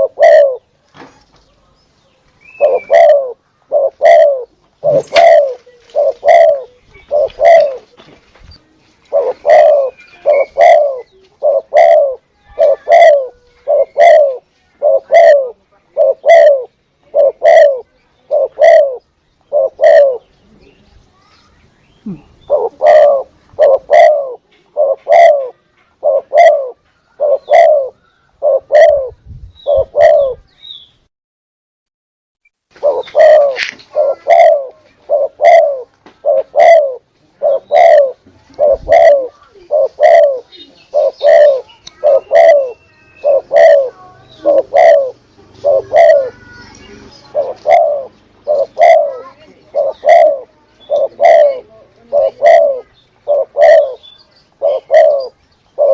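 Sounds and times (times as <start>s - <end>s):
dove cooing: 0.0s - 0.7s, 2.4s - 8.0s, 9.0s - 20.7s, 22.0s - 30.5s, 32.8s - 55.9s.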